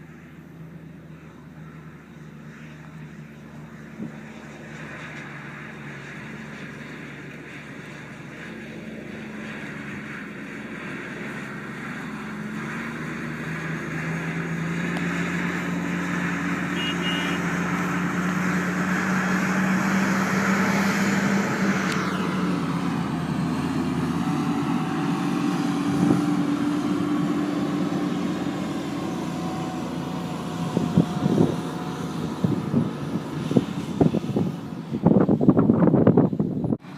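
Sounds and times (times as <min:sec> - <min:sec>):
heavy diesel truck engine: 0:00.0 - 0:36.9.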